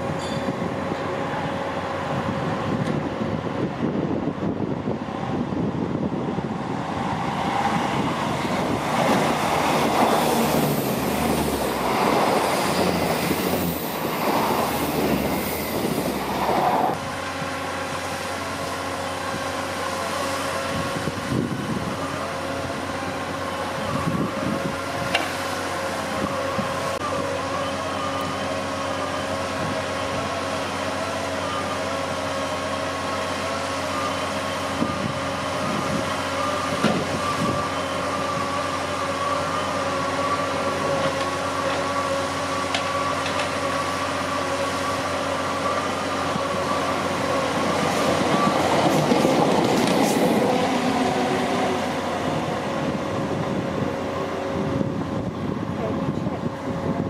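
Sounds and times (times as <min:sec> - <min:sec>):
electric train rumbling past: 0:00.0 - 0:57.0.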